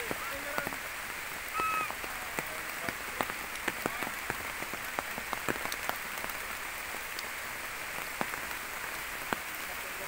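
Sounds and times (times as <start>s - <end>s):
drops hitting leaves and stone: 0.0s - 0.8s, 1.7s - 9.7s
steady rain falling: 0.0s - 10.0s.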